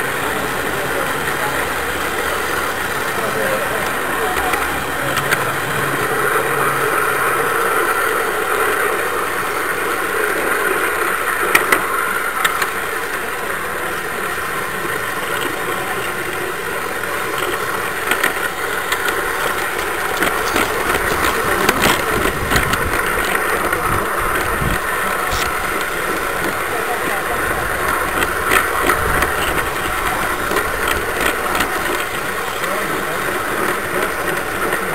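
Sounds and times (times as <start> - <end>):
model train running on track: 0.0 - 34.9.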